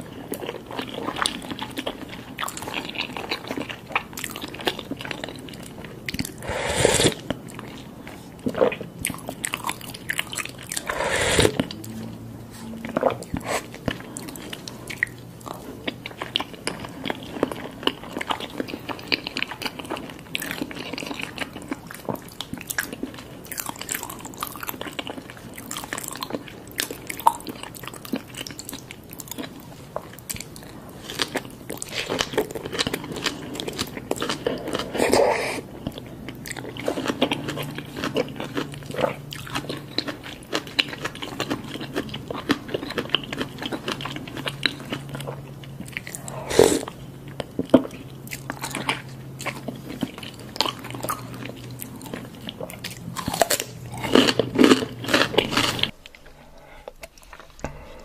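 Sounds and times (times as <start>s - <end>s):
person chewing and biting: 8.4s - 11.9s, 12.8s - 57.9s.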